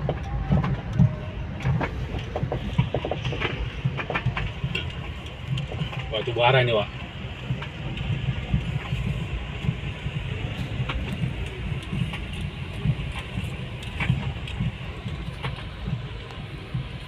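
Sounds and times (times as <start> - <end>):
road and tyre rumble: 0.0 - 17.0.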